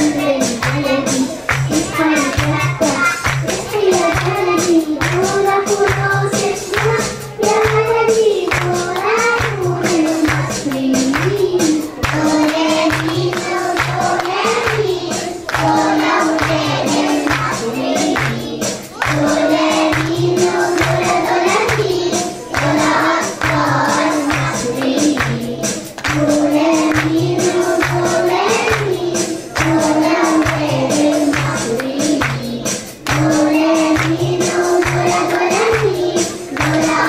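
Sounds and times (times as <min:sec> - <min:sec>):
backing music with steady beat: 0:00.0 - 0:37.0
children's choir singing: 0:00.0 - 0:37.0
girl singing into microphone: 0:00.0 - 0:37.0.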